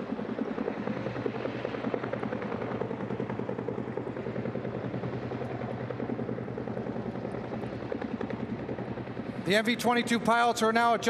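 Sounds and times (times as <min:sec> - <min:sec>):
helicopter rotors chopping: 0:00.0 - 0:11.0.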